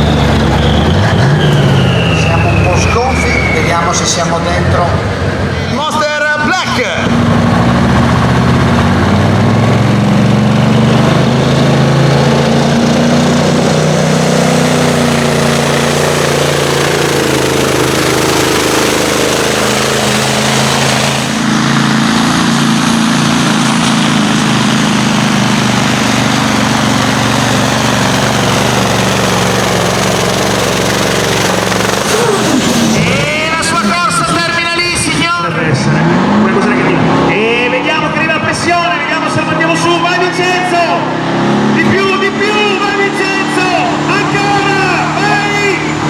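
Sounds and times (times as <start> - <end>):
vehicle engine under load: 0.0 - 46.0.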